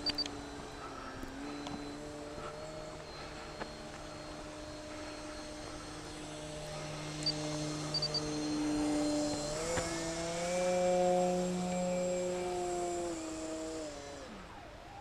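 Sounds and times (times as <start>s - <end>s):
model plane motor humming: 0.0s - 15.0s.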